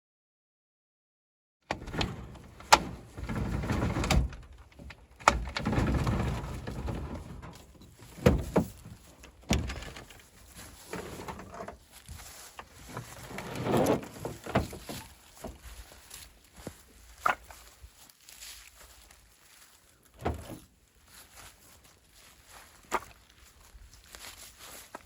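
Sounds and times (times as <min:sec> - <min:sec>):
rustling: 0:01.7 - 0:25.0.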